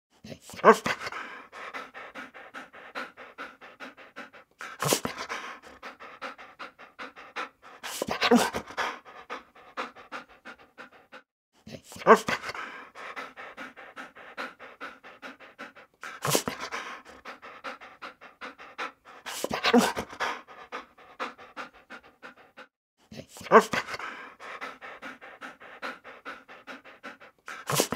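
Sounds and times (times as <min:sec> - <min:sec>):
dog panting: 0:00.2 - 0:27.9.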